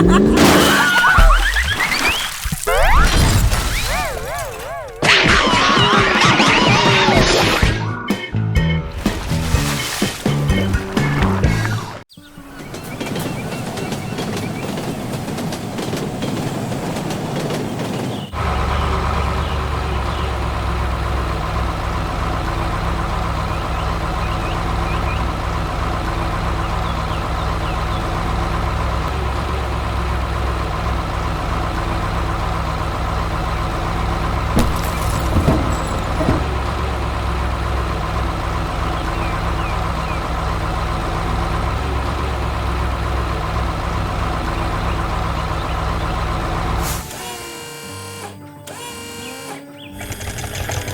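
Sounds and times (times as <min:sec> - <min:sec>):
heavy vehicle engine humming: 0:08.0 - 0:50.9.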